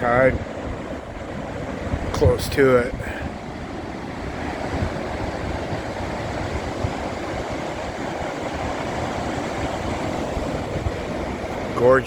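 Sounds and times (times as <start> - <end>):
sea waves washing: 0.0 - 12.0
wind buffeting microphone: 0.0 - 12.0.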